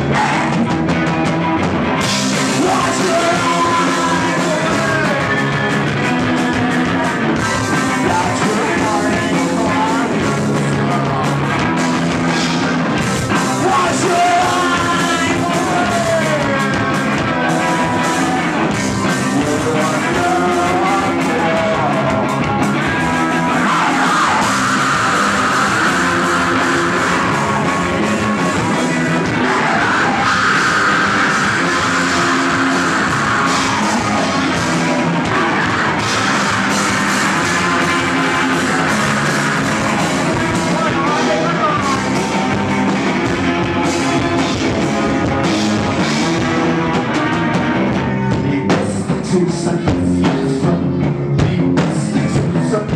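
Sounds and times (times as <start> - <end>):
distorted guitar: 0.0 - 52.9
rock band playing live: 0.0 - 52.9.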